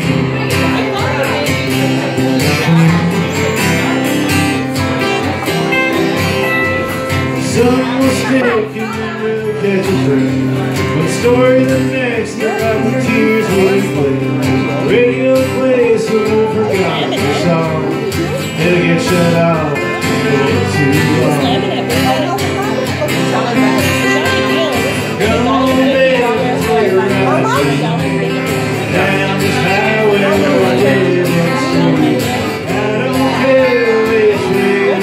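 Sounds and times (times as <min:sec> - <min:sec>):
acoustic guitars strummed and picked: 0:00.0 - 0:35.0
man singing: 0:00.0 - 0:35.0.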